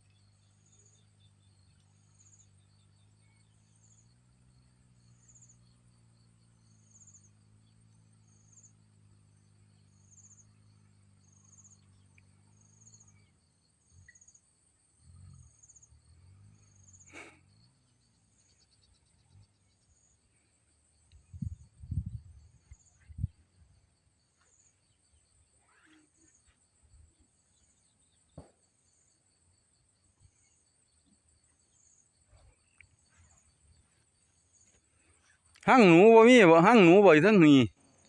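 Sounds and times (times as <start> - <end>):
insects chirping: 0.0 - 38.0.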